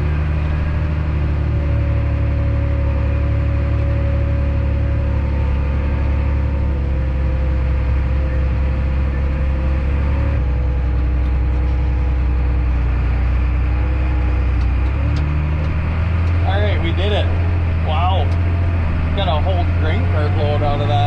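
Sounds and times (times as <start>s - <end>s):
heavy machine engine humming: 0.0s - 21.0s.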